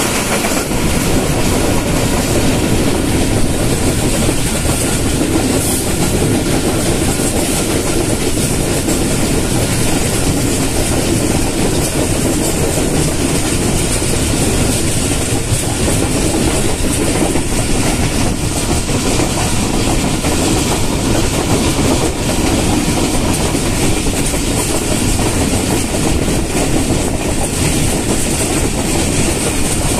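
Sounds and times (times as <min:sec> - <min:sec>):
train wheels rumbling on rails: 0:00.0 - 0:29.9.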